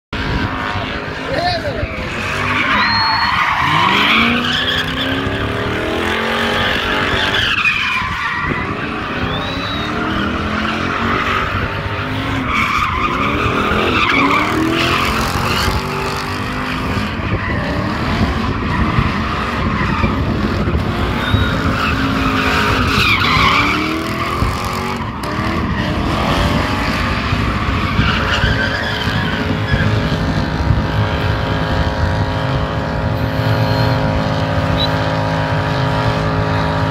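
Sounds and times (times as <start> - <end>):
car engine revving: 0.2 - 36.9
tyres squealing and skidding: 0.2 - 36.9.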